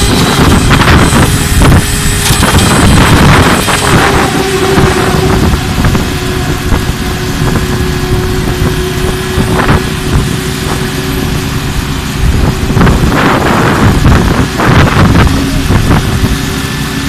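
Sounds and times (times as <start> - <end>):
wind buffeting microphone: 0.0 - 16.9
concrete pump humming: 0.0 - 17.0.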